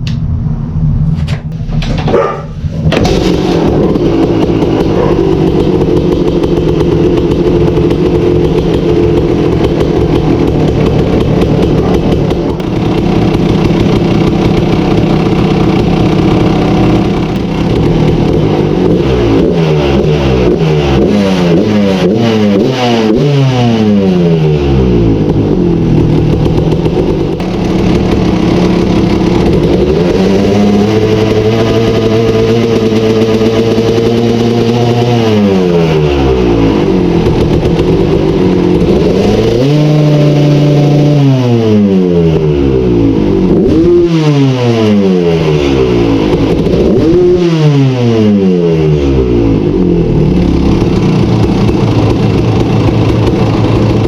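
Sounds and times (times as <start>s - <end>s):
dirt bike engine revving: 2.2s - 54.0s.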